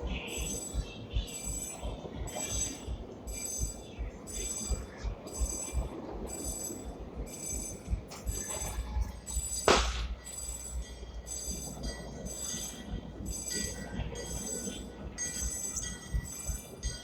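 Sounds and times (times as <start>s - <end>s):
train rumbling: 0.0s - 17.0s
locomotive bell ringing: 0.3s - 17.0s.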